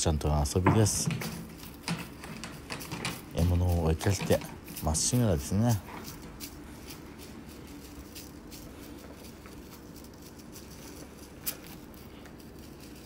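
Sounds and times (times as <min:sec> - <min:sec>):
cats pawing and clawing: 0:00.0 - 0:13.0
faint room hum: 0:00.0 - 0:13.0.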